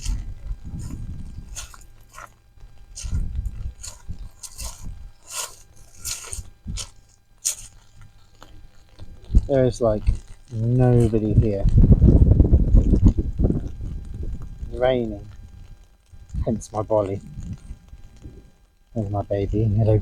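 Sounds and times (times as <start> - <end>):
wind buffeting microphone: 0.0 - 5.2, 5.9 - 7.0, 9.1 - 20.0
crunching and rustling: 0.0 - 20.0.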